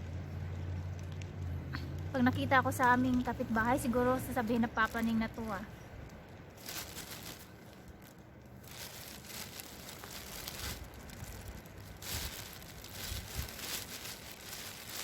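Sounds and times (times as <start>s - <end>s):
plastic bag crinkling: 2.7s - 15.0s.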